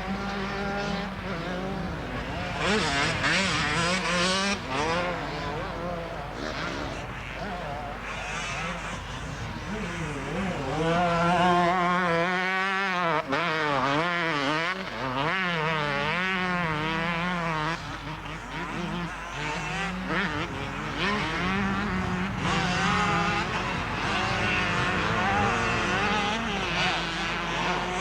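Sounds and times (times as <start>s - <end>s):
motorcycle engine revving: 0.0s - 7.4s, 9.8s - 28.0s
other engines: 0.0s - 28.0s.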